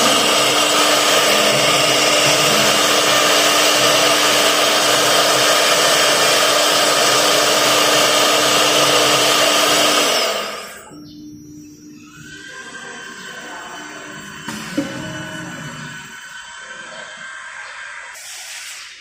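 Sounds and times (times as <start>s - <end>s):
cnc router whirring hiss: 0.0s - 19.0s.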